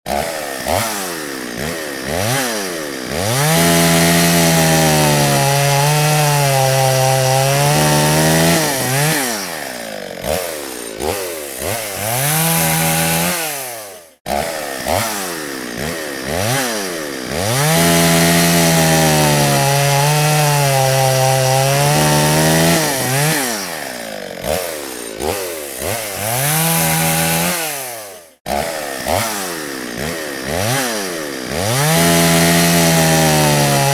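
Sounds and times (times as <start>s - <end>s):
chainsaw revving and cutting wood: 0.0s - 33.9s.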